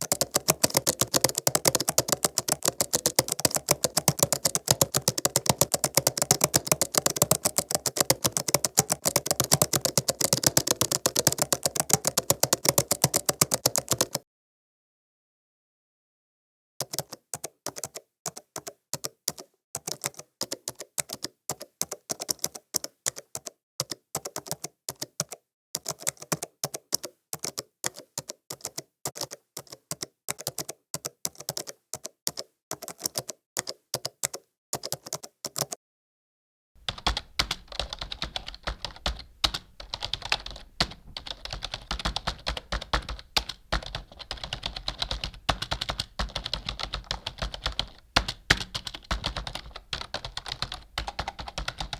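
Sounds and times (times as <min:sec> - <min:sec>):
typing on computer keyboard: 0:00.0 - 0:14.2, 0:16.8 - 0:35.8, 0:36.8 - 0:51.9.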